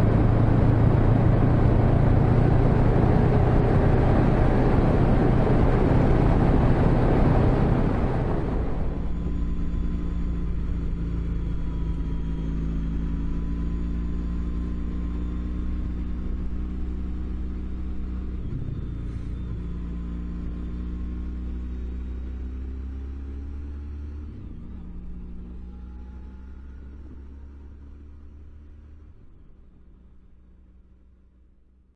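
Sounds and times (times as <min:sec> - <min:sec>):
vehicle engine droning: 0:00.0 - 0:31.8.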